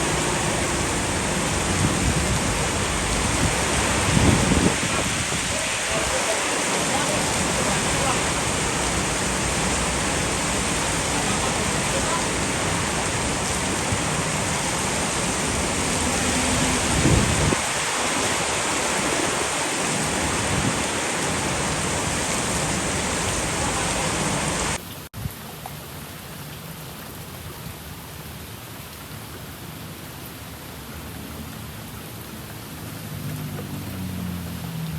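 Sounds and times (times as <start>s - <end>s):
heavy rain pouring: 0.0s - 34.9s
light rain: 0.0s - 34.9s.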